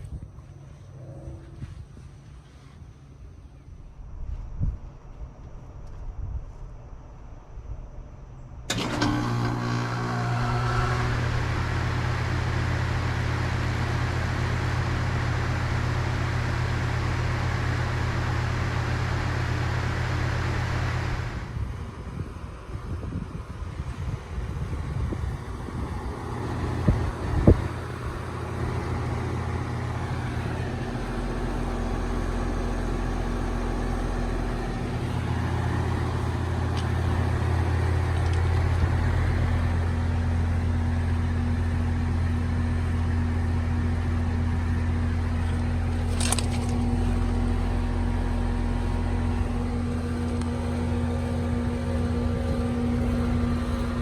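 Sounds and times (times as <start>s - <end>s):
compressor hum: 0.0s - 54.0s
condenser fan: 0.0s - 54.0s.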